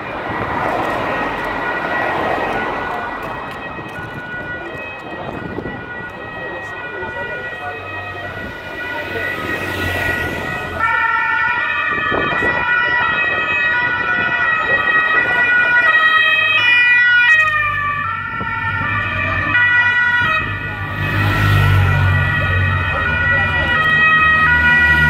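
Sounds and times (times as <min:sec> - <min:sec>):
police motorcycle sirens wailing: 0:00.0 - 0:25.0.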